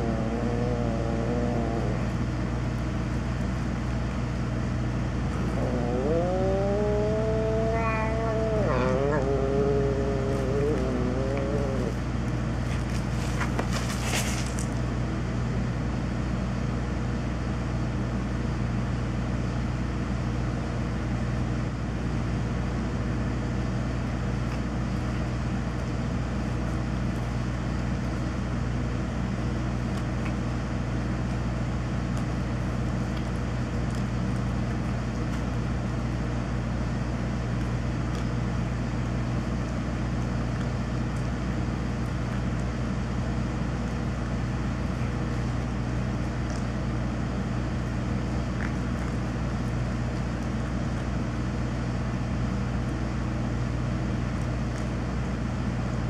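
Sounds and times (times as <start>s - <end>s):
electrical transformer deep hum: 0.0s - 13.7s, 14.3s - 56.0s.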